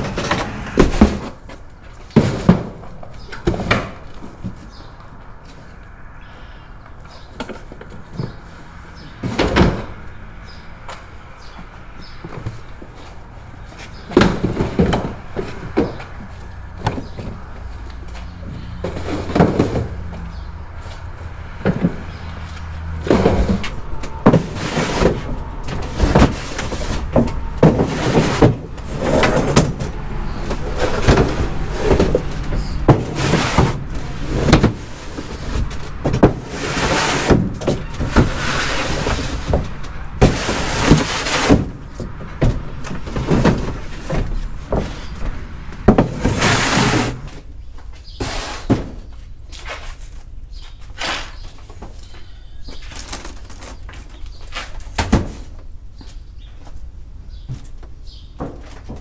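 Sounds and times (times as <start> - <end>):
crates and boxes clattering: 0.0 - 4.9, 7.1 - 56.8, 57.4 - 59.0.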